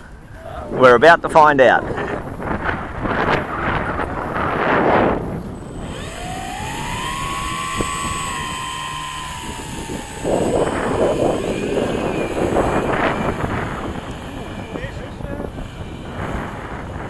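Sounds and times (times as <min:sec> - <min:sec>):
gusty wind noise on microphone: 0:00.0 - 0:17.0
electric motor and propeller whining: 0:01.9 - 0:17.0.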